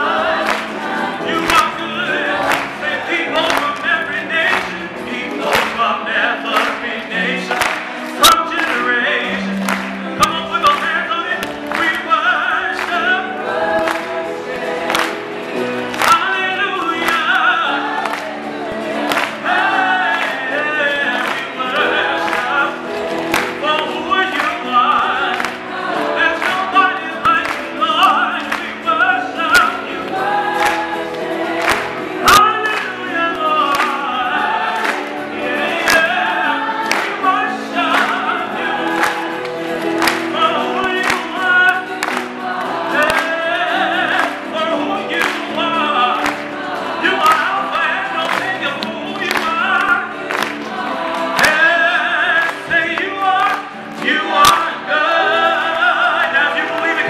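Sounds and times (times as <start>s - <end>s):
gospel choir singing: 0.0s - 57.0s
sharp handclaps: 0.3s - 55.9s
man singing into microphone: 1.2s - 13.9s, 15.8s - 18.2s, 18.9s - 30.7s, 32.2s - 57.0s.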